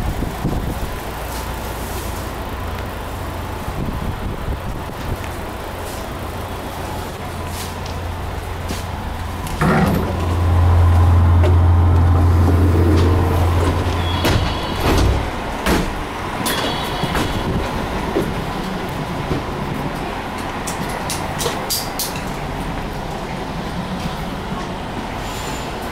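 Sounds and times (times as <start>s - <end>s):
train equipment low hum: 0.0s - 25.9s.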